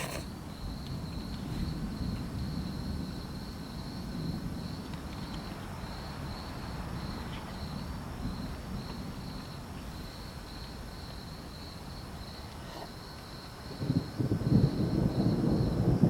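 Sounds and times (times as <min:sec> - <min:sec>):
insects chirping: 0:00.0 - 0:16.0
low rumble of storm: 0:00.0 - 0:16.0.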